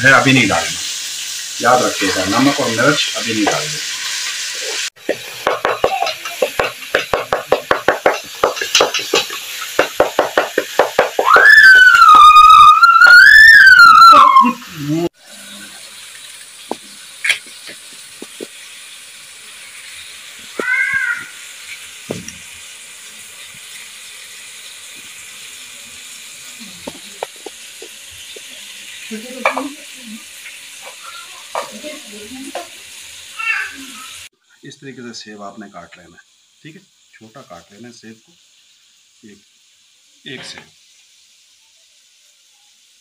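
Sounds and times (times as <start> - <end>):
tomatoes sizzling in a wok: 0.0 - 43.0.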